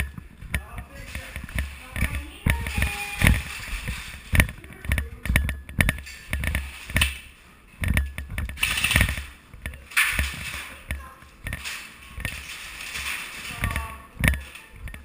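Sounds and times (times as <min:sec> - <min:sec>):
gear clicking and clattering: 0:00.0 - 0:07.2, 0:07.8 - 0:15.0
footsteps on hard floor: 0:00.0 - 0:14.4.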